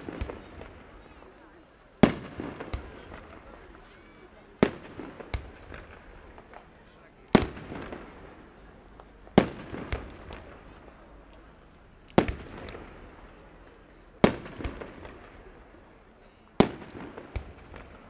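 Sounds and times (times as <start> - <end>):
small firework cracks: 0.0 - 18.0.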